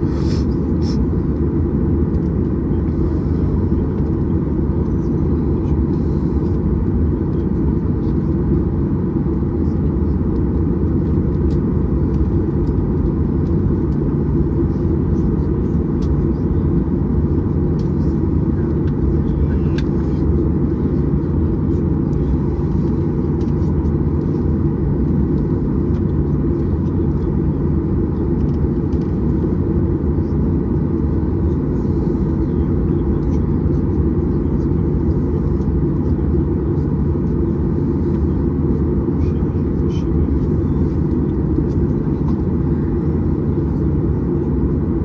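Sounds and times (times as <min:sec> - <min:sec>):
aircraft cabin rumble: 0:00.0 - 0:45.0.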